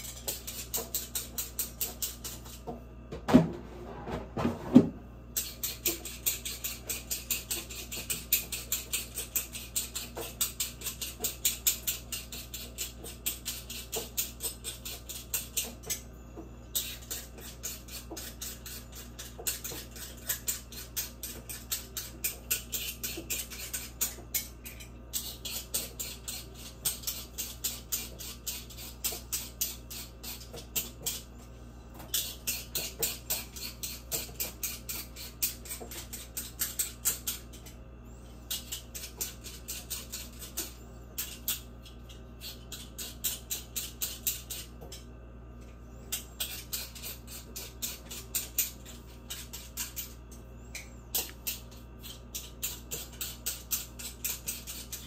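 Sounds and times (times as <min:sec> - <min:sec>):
peeler scraping potato skin: 0:00.0 - 0:02.7, 0:05.3 - 0:31.3, 0:32.0 - 0:45.1, 0:45.9 - 0:55.0.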